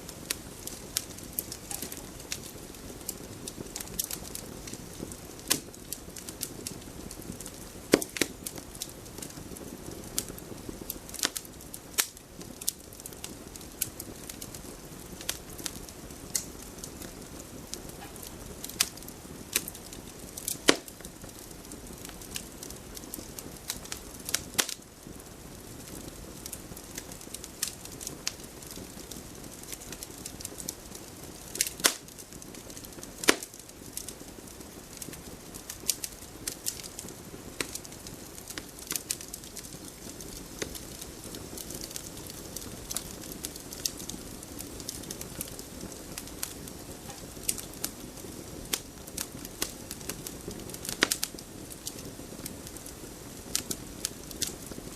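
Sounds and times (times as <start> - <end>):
fire popping and snapping: 0.0 - 54.9
hiss of flames: 0.0 - 54.9.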